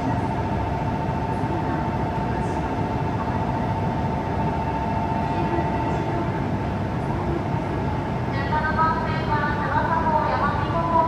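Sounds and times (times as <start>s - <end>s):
train hum and rumble: 0.0s - 11.0s.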